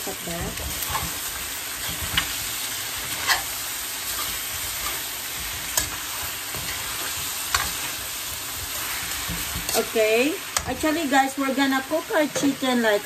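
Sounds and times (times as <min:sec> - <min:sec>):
chicken wings sizzling in a wok: 0:00.0 - 0:13.0.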